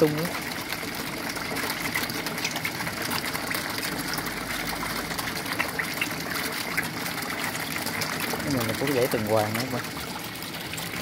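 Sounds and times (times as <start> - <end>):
water rushing: 0.0 - 11.0
small splashes and pops: 0.1 - 10.0.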